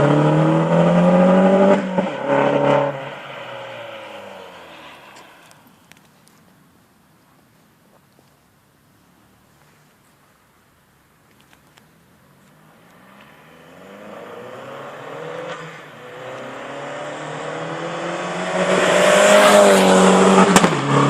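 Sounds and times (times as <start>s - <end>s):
car engine and exhaust: 0.0s - 21.0s.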